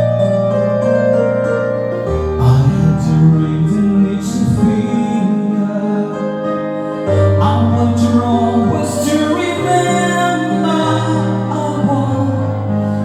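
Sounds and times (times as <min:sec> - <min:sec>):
keyboard backing track: 0:00.0 - 0:13.0
person singing a pop ballad: 0:02.1 - 0:13.0.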